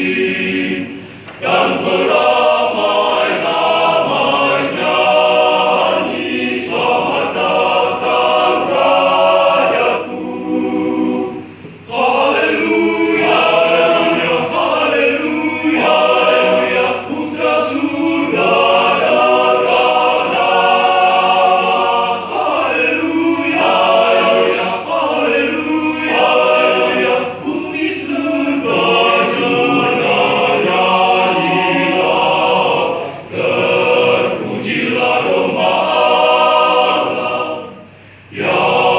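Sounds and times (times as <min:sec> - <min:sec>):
men's choir singing: 0:00.0 - 0:38.9.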